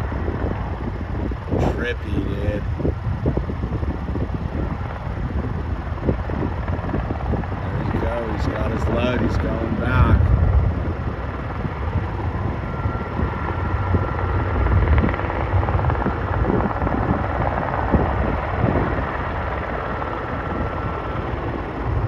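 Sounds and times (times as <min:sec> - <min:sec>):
helicopter flying: 0:00.0 - 0:22.0
thin steady whine: 0:00.0 - 0:22.0.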